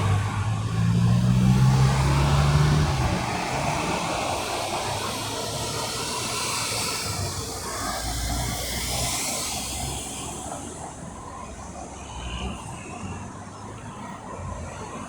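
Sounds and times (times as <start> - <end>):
tyre and road noise hiss: 0.0 - 13.7
vehicle engine droning: 0.0 - 15.0.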